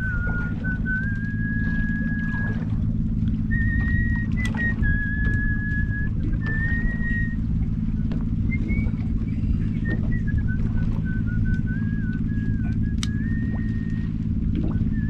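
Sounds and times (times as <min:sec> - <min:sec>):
thin whistle-like tone: 0:00.0 - 0:02.6, 0:03.4 - 0:15.0
boat engine idling: 0:00.0 - 0:15.0.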